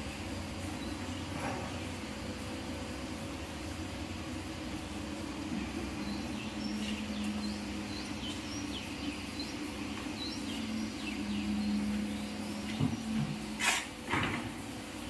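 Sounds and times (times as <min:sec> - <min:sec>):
low hum: 0:00.0 - 0:13.6
birds chirping: 0:00.0 - 0:15.0.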